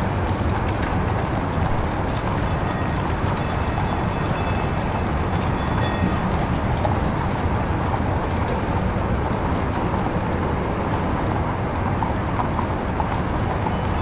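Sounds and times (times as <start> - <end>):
horse hooves clip-clopping: 0.0 - 14.0
low rumble of street noise: 0.0 - 14.0.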